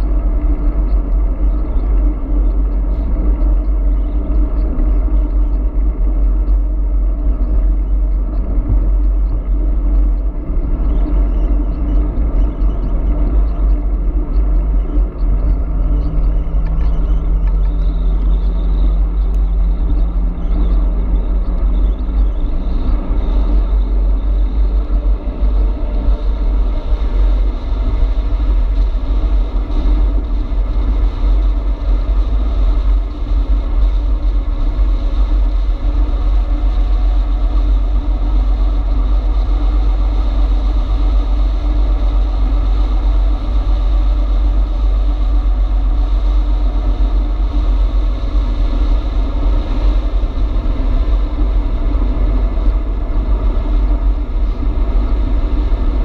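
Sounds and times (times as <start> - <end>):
faint steady hum: 0.0 - 56.0
wind rumble on microphone: 0.0 - 56.0.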